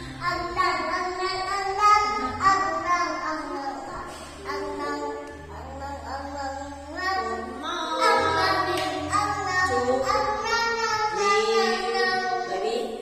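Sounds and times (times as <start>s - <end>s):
child singing: 0.2s - 12.8s.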